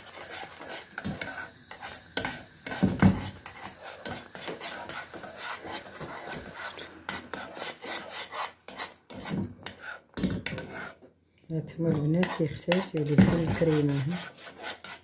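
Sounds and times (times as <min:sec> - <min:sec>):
spoon stirring thick mixture in saucepan: 0:00.0 - 0:15.0.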